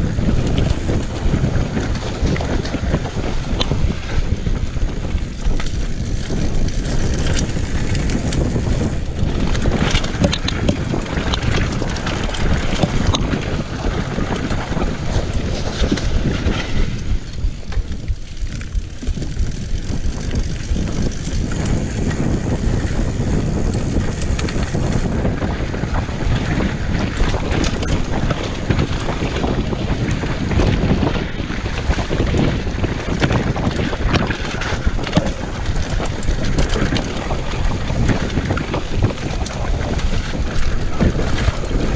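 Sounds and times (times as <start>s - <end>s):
bike rattling and knocking: 0.0s - 41.9s
tyres rumbling on dirt: 0.0s - 41.9s
wind buffeting microphone: 0.0s - 41.9s.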